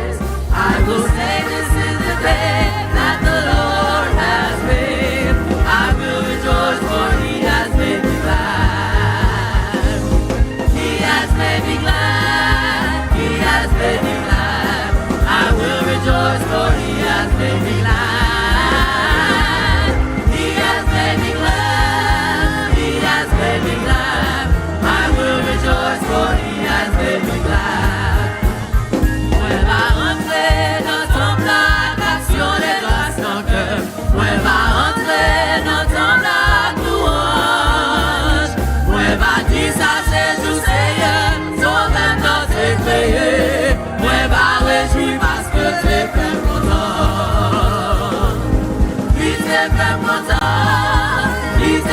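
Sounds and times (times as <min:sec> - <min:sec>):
band with steady beat: 0:00.0 - 0:51.9
choir singing: 0:00.0 - 0:51.9.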